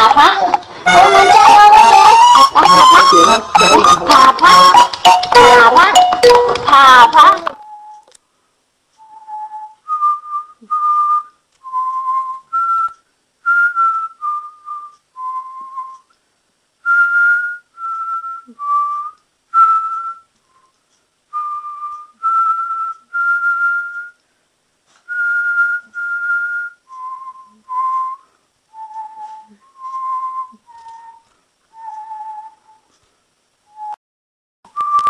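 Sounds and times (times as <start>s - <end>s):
person whistling a slow tune: 0.9s - 5.4s, 7.6s - 8.2s, 9.0s - 16.1s, 16.8s - 24.2s, 25.0s - 32.9s, 33.7s - 34.0s, 34.7s - 35.0s.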